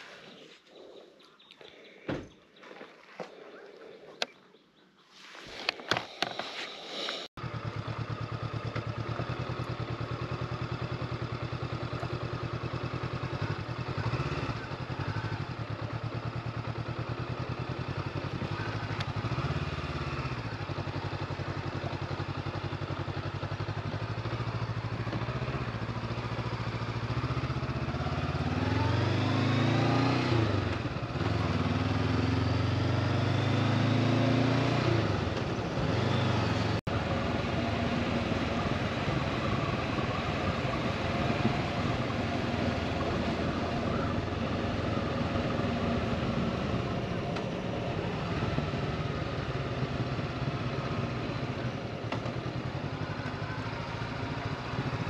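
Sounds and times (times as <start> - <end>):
motorcycle engine running: 7.4 - 55.0.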